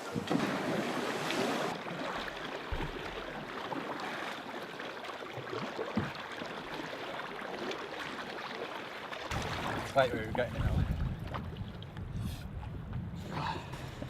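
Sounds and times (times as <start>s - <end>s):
lake water splashing: 0.0s - 12.1s.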